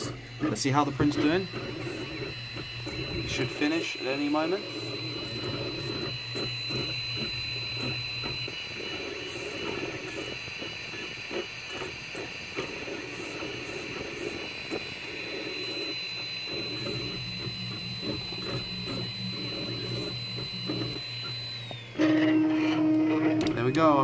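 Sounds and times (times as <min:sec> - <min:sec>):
high whine: 0:00.0 - 0:24.0
printer motors buzzing: 0:00.0 - 0:24.0.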